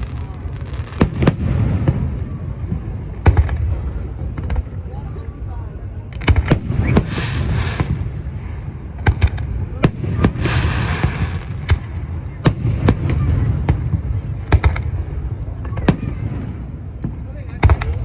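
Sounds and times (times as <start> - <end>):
fireworks bangs: 0.0 - 4.9, 6.1 - 18.0
fireworks crackling: 0.0 - 5.4, 6.1 - 18.0.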